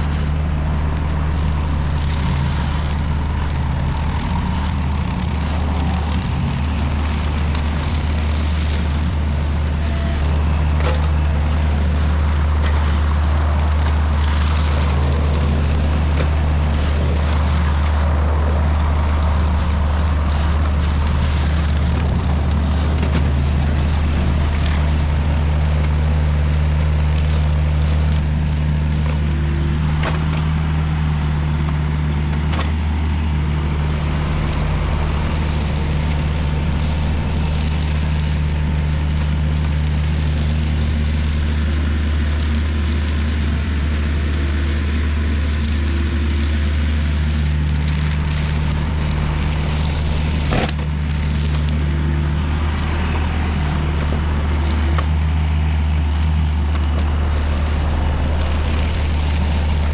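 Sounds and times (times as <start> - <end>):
diesel engine running under load: 0.0 - 59.9
hydraulic brush mower spinning: 0.0 - 59.9.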